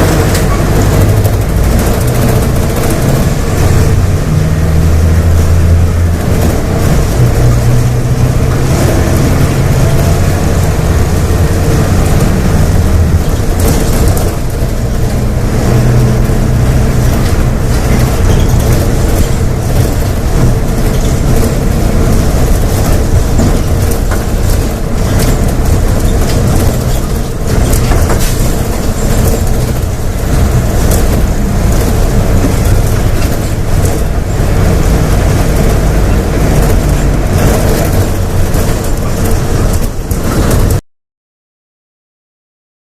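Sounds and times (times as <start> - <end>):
bus diesel engine running hard: 0.0 - 40.8.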